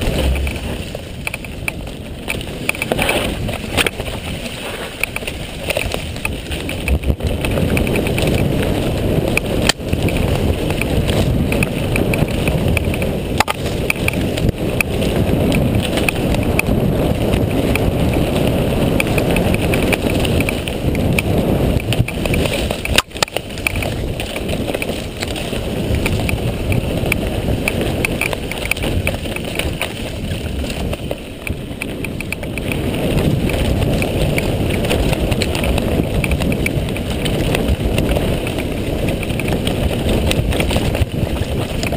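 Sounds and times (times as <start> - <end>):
bike knocking over bumps: 0.0 - 41.9
bike tyres rumbling over dirt: 0.0 - 41.9
wind buffeting microphone: 0.0 - 41.9.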